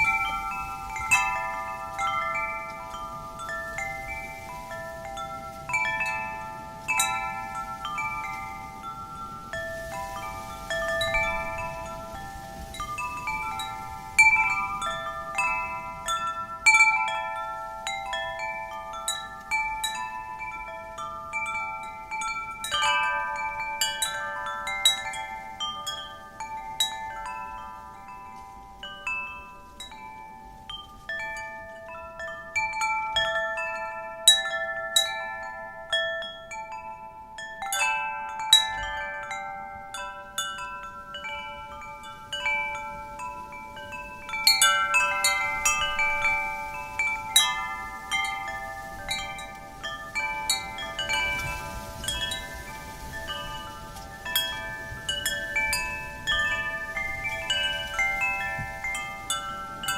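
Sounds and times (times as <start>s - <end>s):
low rush of wind: 0.0s - 59.9s
wind chimes ringing: 0.0s - 59.9s.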